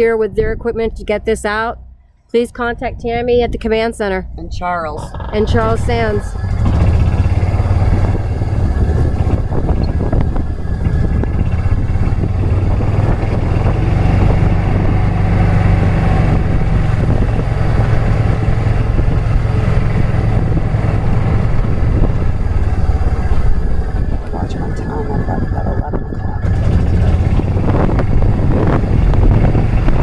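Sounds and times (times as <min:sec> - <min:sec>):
road and wind noise: 0:00.0 - 0:30.0
vehicle engine running: 0:02.6 - 0:30.0.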